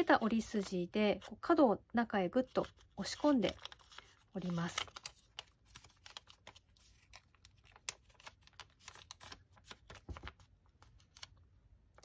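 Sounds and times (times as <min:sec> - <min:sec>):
paper folding crackles: 0:02.4 - 0:12.0.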